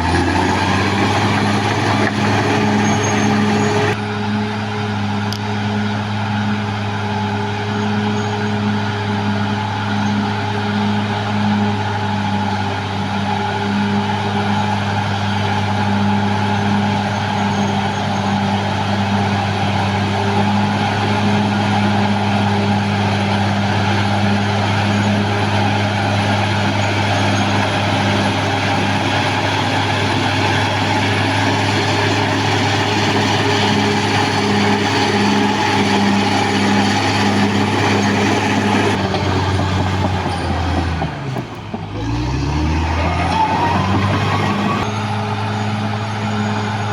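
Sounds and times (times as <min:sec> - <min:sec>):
bulldozer diesel engine drone: 0:00.0 - 0:46.9.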